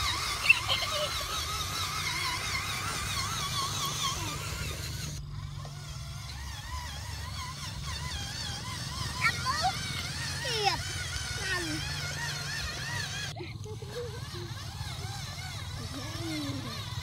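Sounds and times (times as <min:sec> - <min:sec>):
small motor and gearbox whining: 0:00.0 - 0:17.0
steady low hum: 0:00.0 - 0:17.0.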